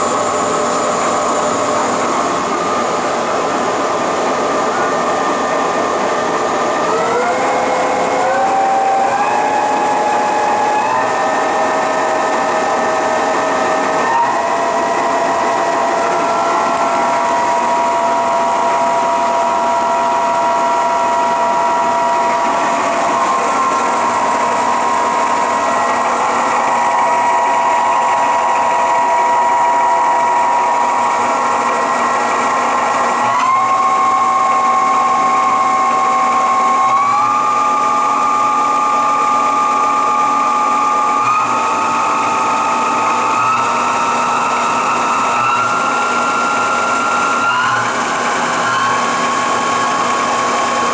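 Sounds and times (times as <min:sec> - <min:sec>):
lathe spindle whining: 0:00.0 - 0:50.9.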